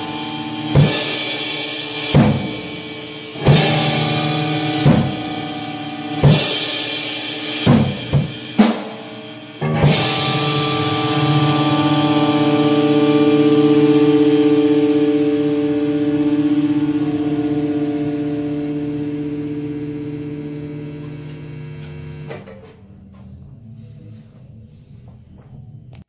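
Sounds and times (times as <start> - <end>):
slow heavy drum beats: 0.0 - 23.6
sustained chords: 0.0 - 26.0.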